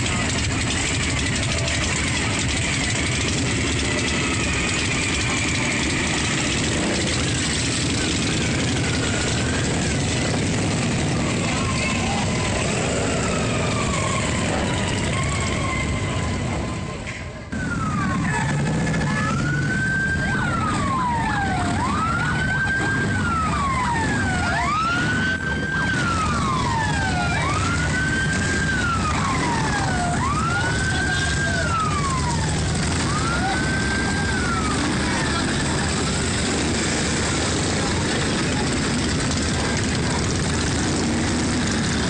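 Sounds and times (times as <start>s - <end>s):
motorcycle engines rumbling: 0.0s - 42.0s
wailing siren: 0.0s - 42.0s.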